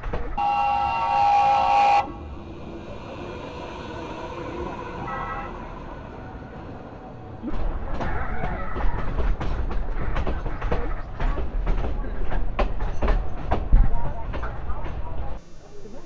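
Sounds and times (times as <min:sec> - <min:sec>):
train rolling past: 0:00.0 - 0:15.4.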